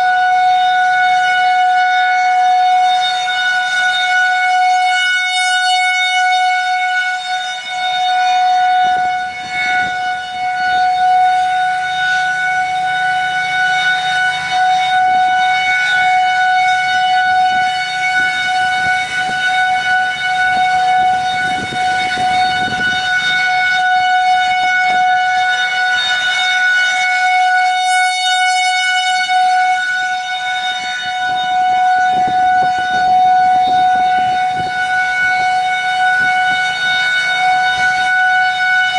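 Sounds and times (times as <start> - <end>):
wind rumble on microphone: 0.0 - 28.4, 29.3 - 38.9
warning siren steady tone: 0.0 - 38.9.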